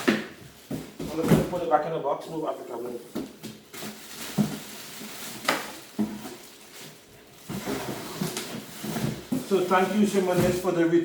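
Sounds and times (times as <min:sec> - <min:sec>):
cardboard rustling: 0:00.0 - 0:01.7, 0:02.8 - 0:11.0.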